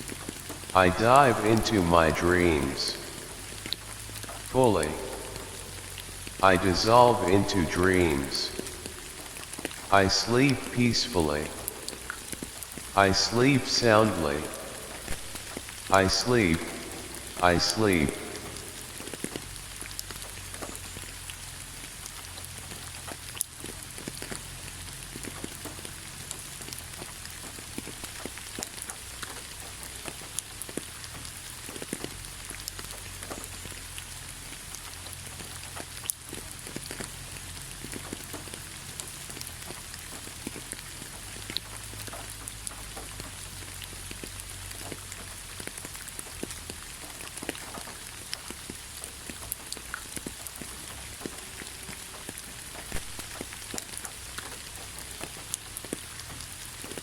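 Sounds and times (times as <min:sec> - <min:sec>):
raindrops pattering: 0:00.0 - 0:57.0
steady rain hiss: 0:00.0 - 0:57.0.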